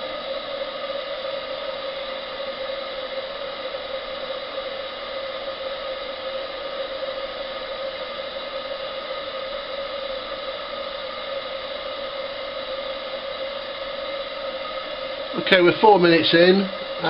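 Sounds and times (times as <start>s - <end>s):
burner flame rushing: 0.0s - 17.0s.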